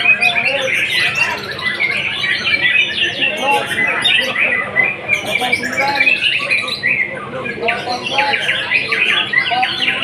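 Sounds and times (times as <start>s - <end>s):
songbird chirping and twittering: 0.0s - 10.0s.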